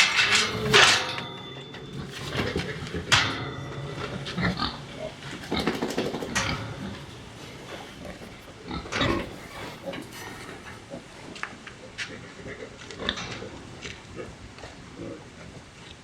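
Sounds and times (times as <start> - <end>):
farm animals calling: 0.0 - 15.8.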